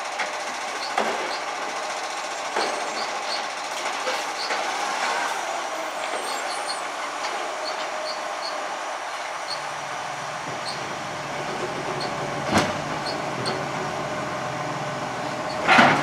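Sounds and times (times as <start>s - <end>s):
garbage truck mechanical rush: 0.0s - 16.0s.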